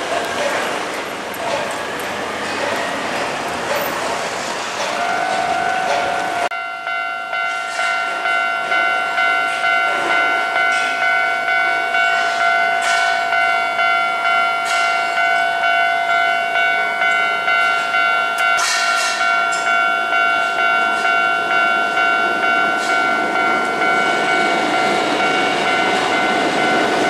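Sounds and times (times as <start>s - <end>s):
level crossing alarm dinging: 4.8s - 27.0s.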